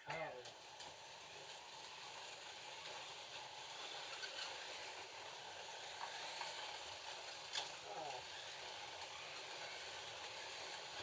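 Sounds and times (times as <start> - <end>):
slot cars whirring: 0.3 - 11.0.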